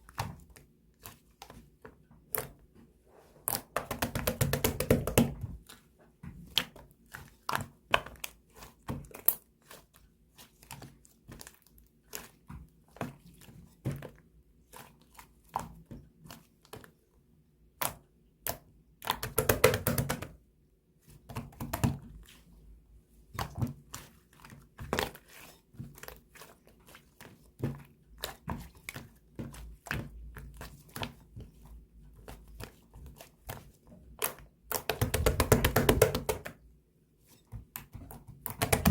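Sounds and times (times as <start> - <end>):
slime squishing: 0.0 - 19.9, 21.0 - 36.6.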